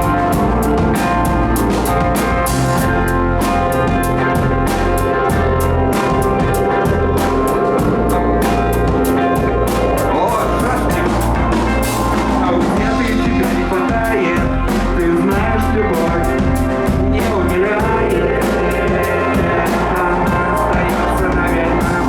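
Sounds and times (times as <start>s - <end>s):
drum kit beat: 0.0s - 22.0s
rock band playing live: 0.0s - 22.0s.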